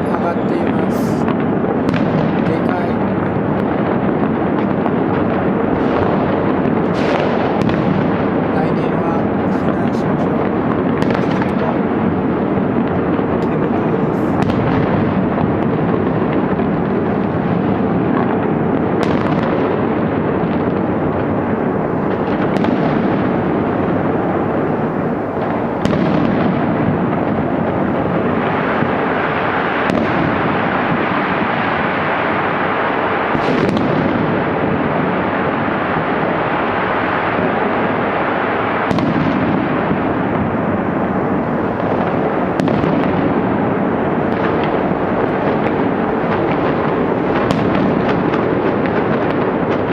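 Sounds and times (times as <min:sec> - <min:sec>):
firecrackers barrage: 0:00.0 - 0:49.9
loud firework bangs: 0:00.0 - 0:49.9.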